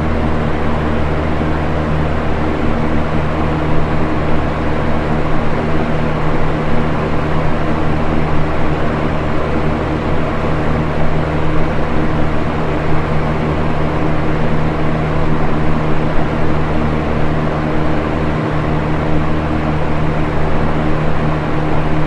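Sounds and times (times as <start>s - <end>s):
fan air rushing: 0.0s - 22.0s
low motor hum: 0.0s - 22.0s.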